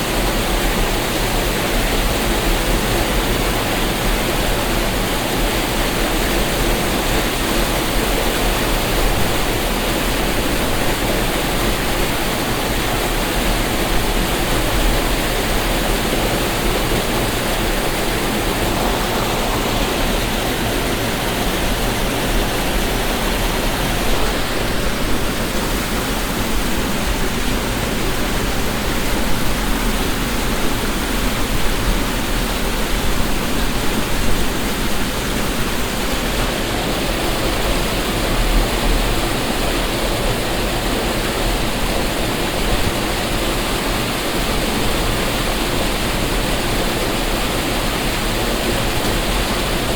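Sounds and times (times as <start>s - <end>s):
waterfall splashing: 0.0s - 49.9s.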